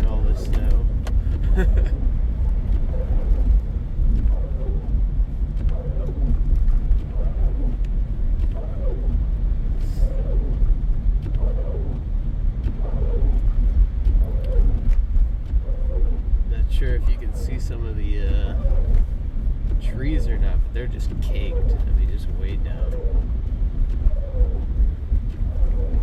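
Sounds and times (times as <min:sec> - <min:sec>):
engine and road noise rumble: 0:00.0 - 0:26.0.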